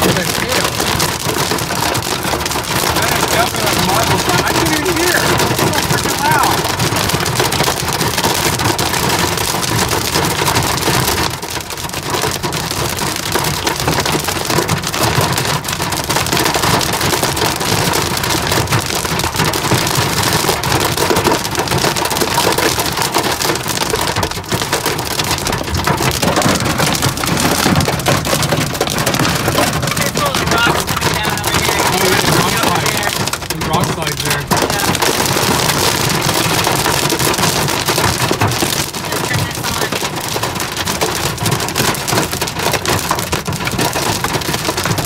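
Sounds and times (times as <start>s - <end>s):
hail and rain on car roof: 0.0s - 45.0s.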